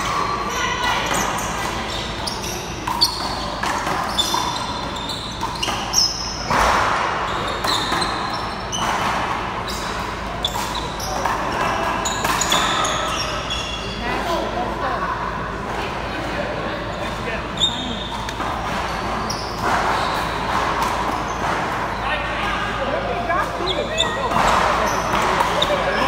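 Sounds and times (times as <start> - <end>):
sneakers squeaking on court: 0.0 - 14.3, 16.8 - 26.0.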